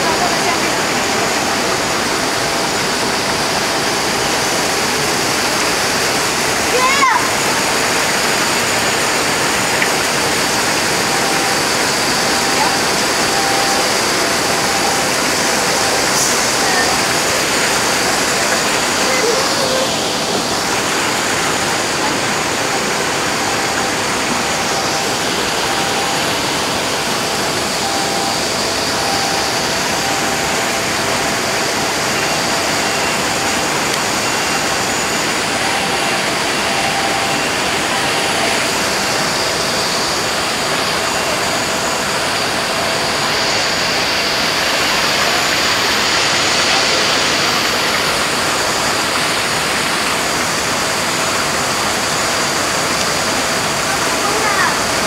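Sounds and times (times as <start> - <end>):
water pouring down waterfall: 0.0 - 55.0.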